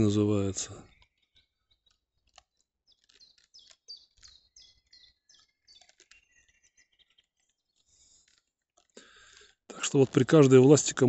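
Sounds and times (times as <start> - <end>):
faint bird song: 0.0 - 11.0.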